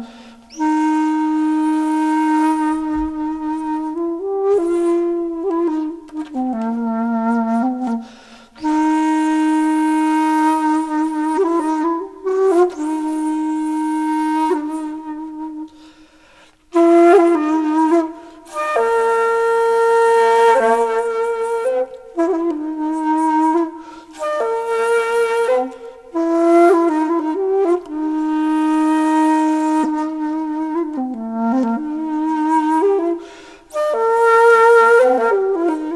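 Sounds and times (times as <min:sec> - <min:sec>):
flute-like slow melody: 0:00.0 - 0:35.9.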